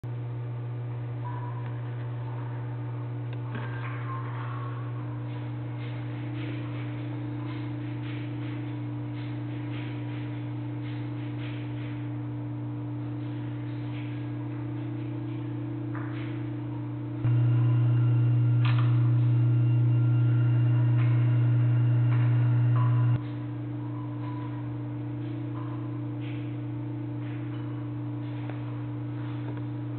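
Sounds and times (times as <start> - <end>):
steady low hum: 0.0 - 29.9
faint higher hum: 0.1 - 29.9.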